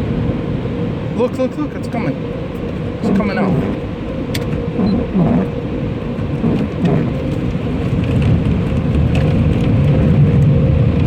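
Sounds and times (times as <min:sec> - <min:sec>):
car wash water spray rumble: 0:00.0 - 0:11.0
steady mechanical hum: 0:00.0 - 0:11.0.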